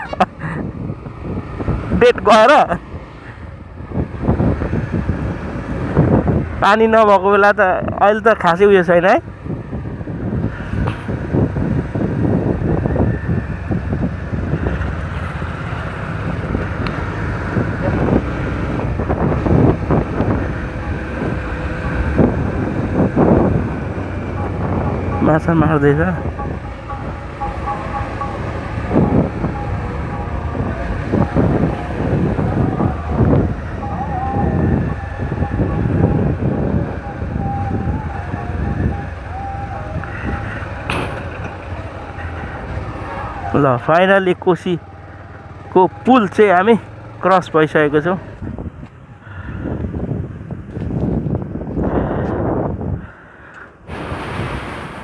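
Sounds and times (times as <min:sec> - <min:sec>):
wind buffeting microphone: 0:00.0 - 0:08.4, 0:09.0 - 0:46.0, 0:48.1 - 0:55.0
motorcycle rumble: 0:00.0 - 0:55.0.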